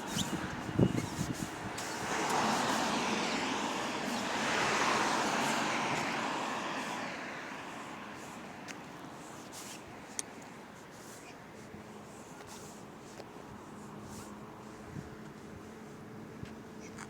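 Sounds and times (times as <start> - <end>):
bus road and tyre noise: 0.0 - 17.0.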